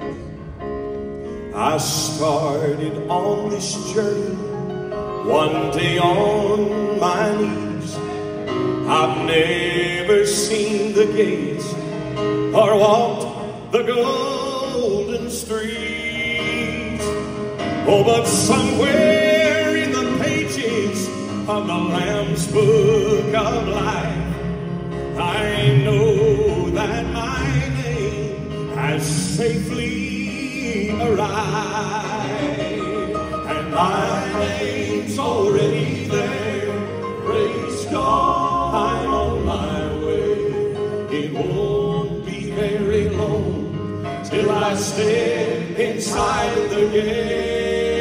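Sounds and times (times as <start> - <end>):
man singing with vibrato: 1.4 - 8.1, 8.7 - 48.0.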